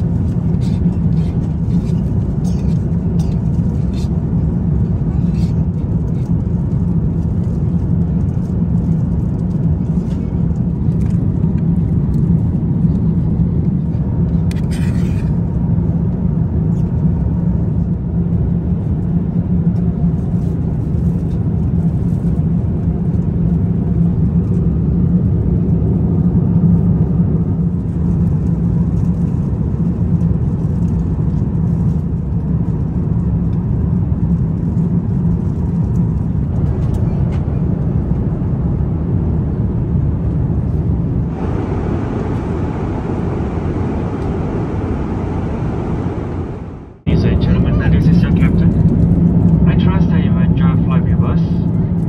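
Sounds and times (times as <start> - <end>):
airplane cabin drone: 0.0 - 52.0.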